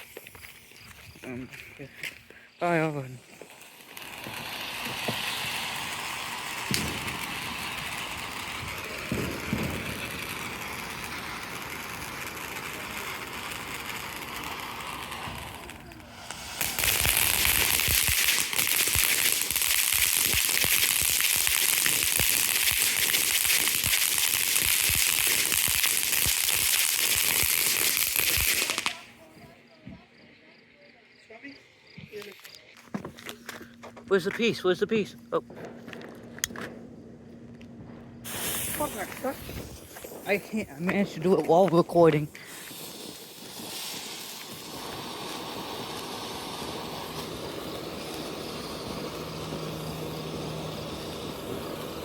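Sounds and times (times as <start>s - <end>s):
firework crackling: 0.0s - 30.6s, 33.2s - 52.0s
ground firework hissing: 0.0s - 52.0s.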